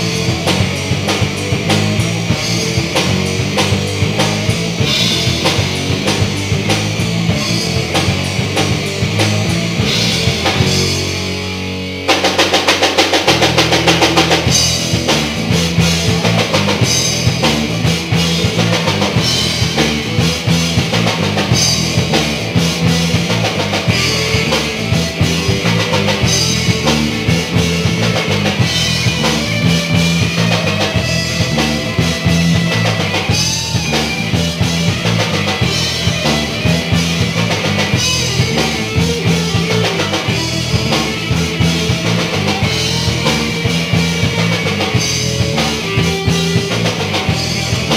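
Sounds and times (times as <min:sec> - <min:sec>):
drum kit beat: 0:00.0 - 0:47.9
electric guitar: 0:00.0 - 0:47.9
rock band playing: 0:00.0 - 0:47.9.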